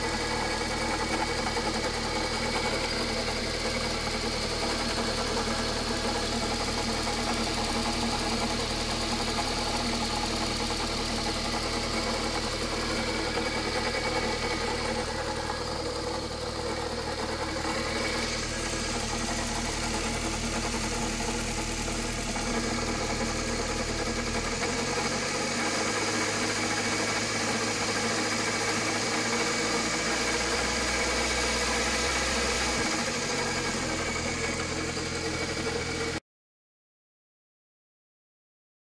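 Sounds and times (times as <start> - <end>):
car engine running: 0.0 - 36.2.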